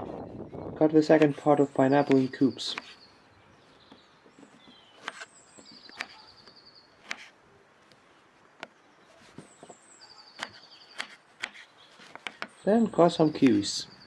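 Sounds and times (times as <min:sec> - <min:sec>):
faint bird chirping: 0:00.2 - 0:14.0.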